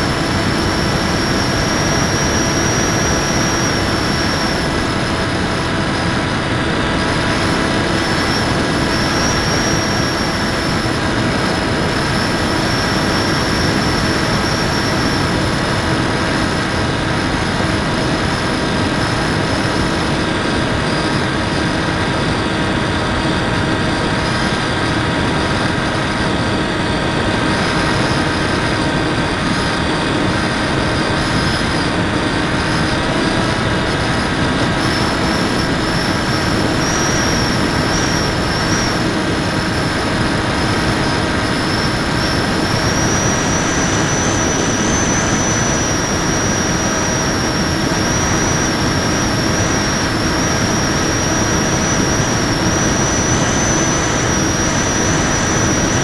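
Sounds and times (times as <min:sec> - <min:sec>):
electric motor and propeller whine: 0:00.0 - 0:56.0
rushing wind: 0:00.0 - 0:56.0.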